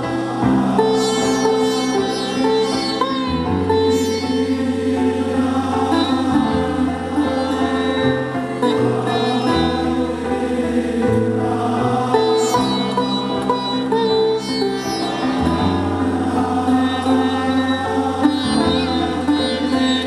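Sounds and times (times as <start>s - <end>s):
choir-like vocals: 0.0s - 20.0s
sitar music: 0.0s - 20.0s.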